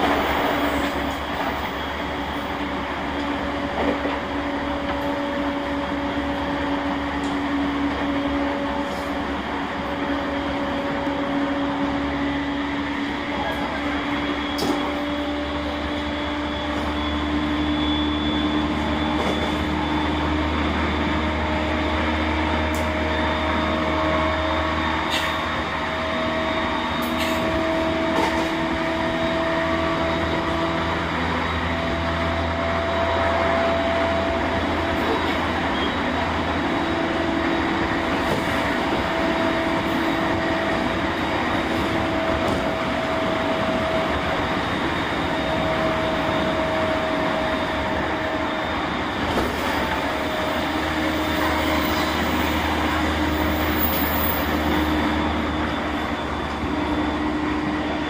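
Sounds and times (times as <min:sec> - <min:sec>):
traction motors whining: 0:00.0 - 0:58.0
wheels rumbling on rail: 0:00.0 - 0:58.0.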